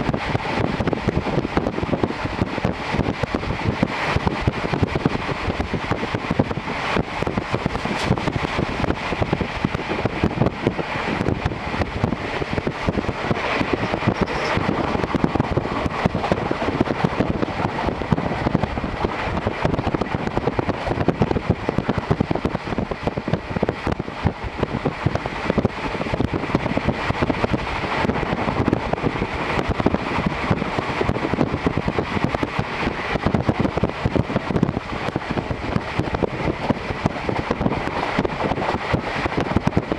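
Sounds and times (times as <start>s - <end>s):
air rushing through window: 0.0s - 39.9s
train wheels rumbling on rails: 0.0s - 39.9s.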